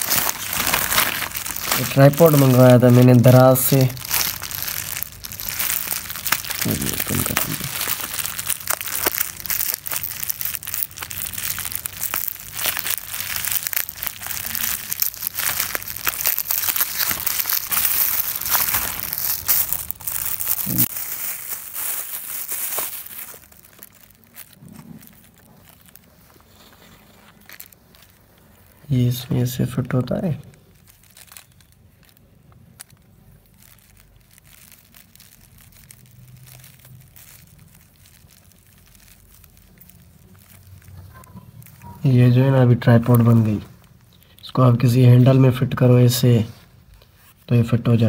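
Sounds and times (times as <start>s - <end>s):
bubble wrap crinkling: 0.0s - 48.0s.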